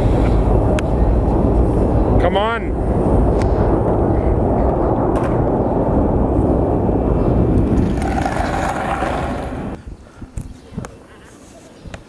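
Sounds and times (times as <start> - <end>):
loud low rumble: 0.0 - 9.8.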